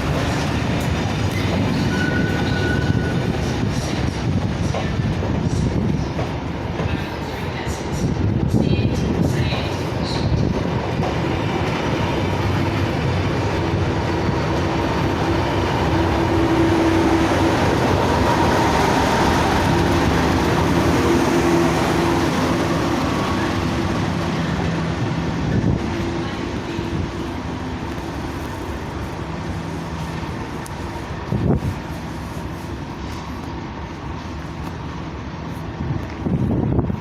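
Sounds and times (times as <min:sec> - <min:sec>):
diesel train engine: 0:00.0 - 0:37.0.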